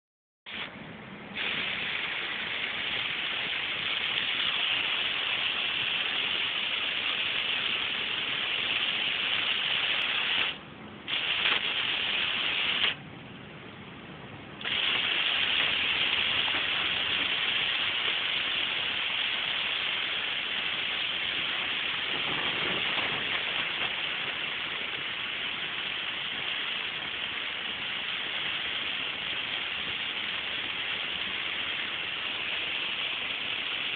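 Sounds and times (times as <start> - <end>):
wet road spray: 0.5 - 13.0, 14.4 - 33.9
heavy rain on car roof: 1.4 - 13.0, 14.7 - 33.9.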